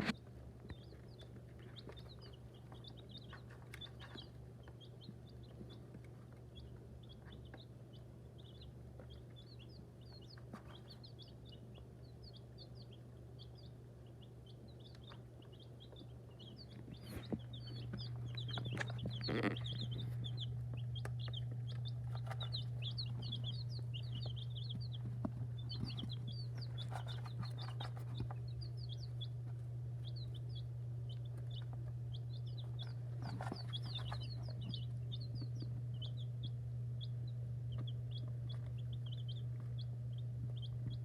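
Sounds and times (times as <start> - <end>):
chicks peeping: 0.0 - 41.0
steady low hum: 0.0 - 41.0.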